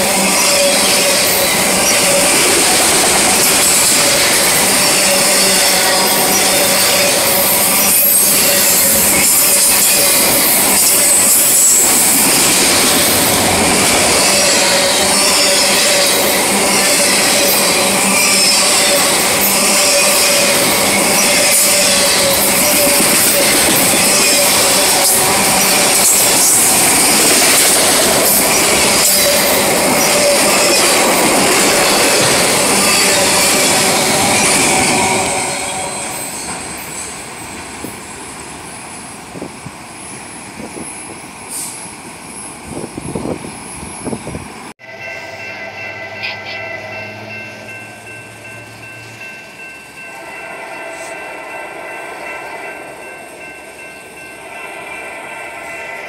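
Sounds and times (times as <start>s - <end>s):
steel wheels rushing on rail: 0.0s - 56.0s.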